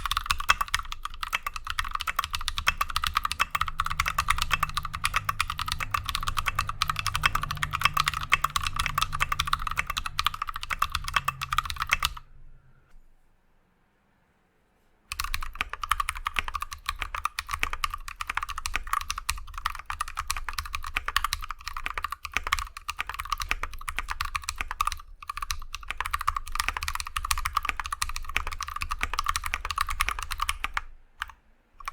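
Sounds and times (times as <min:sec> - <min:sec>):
typing on mechanical keyboard: 0:00.0 - 0:12.2, 0:15.1 - 0:31.9.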